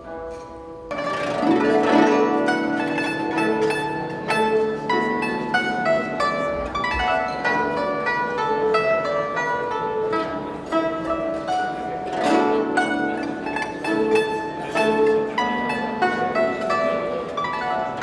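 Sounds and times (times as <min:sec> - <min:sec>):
plucked string instrument melody: 0:00.0 - 0:18.0.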